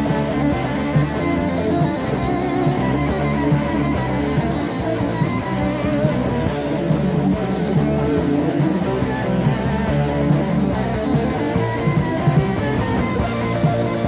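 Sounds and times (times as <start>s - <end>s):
heavy metal band playing: 0.0s - 14.0s.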